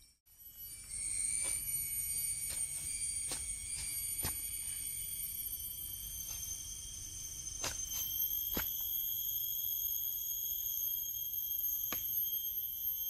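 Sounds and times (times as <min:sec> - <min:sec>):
shrill insect chorus: 0:00.0 - 0:13.0.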